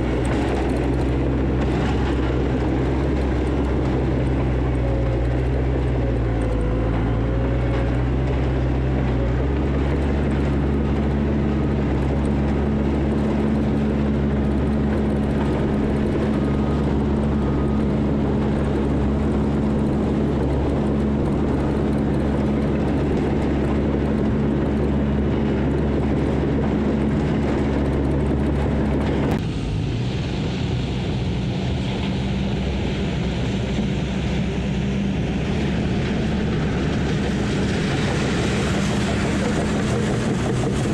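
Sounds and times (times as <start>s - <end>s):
heavy diesel engine humming: 0.0s - 40.9s.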